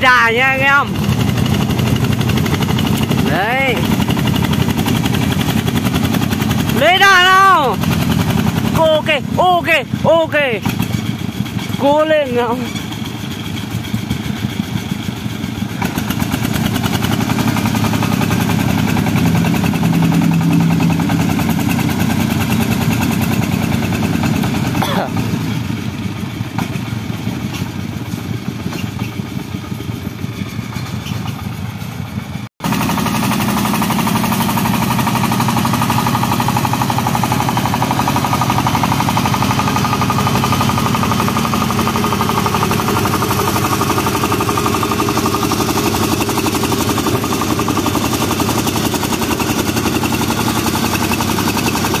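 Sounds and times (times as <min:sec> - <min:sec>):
diesel engine knocking under load: 0:00.1 - 0:52.0.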